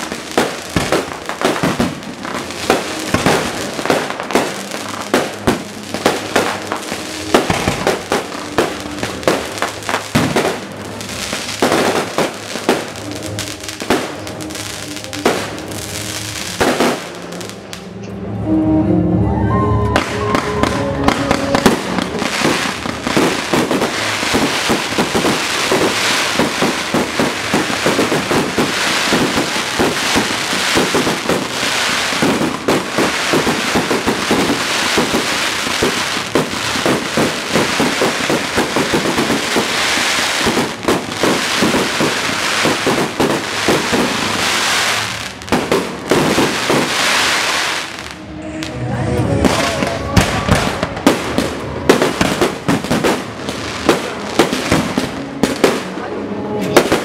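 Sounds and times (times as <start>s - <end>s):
fireworks bursts and bangs: 0.0s - 17.9s, 20.0s - 57.0s
fireworks crackling: 0.0s - 18.0s, 20.0s - 57.0s.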